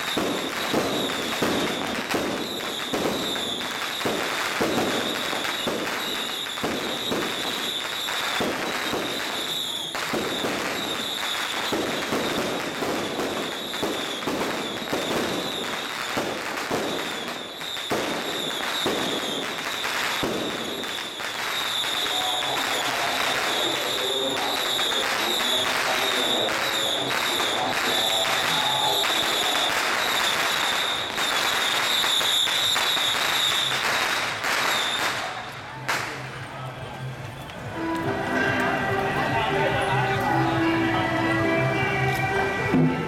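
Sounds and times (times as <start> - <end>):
firecrackers crackling: 0.0 - 43.0.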